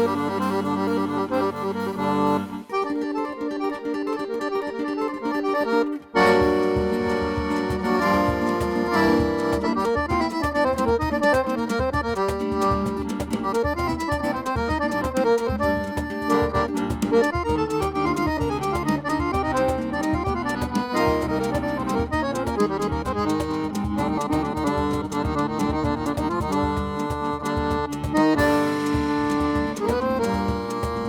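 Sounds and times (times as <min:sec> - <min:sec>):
accordion playing: 0:00.0 - 0:31.0.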